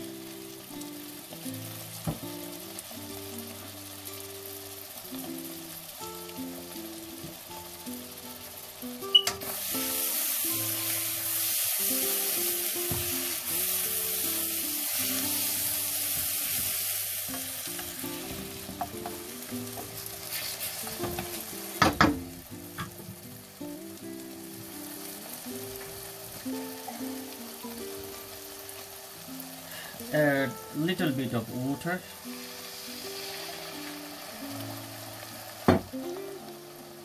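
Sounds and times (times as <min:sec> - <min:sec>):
food sizzling in a wok: 0:00.0 - 0:37.0.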